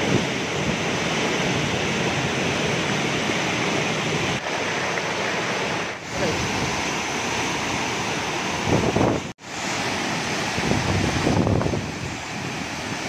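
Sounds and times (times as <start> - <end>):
large waterfall rushing: 0.0 - 13.0
river water tumbling over rocks: 0.1 - 13.0.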